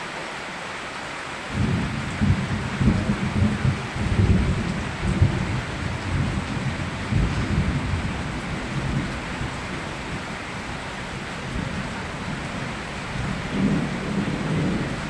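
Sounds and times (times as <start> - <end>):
steady rain falling: 0.0 - 15.0
rolling thunder rumble: 1.5 - 15.0.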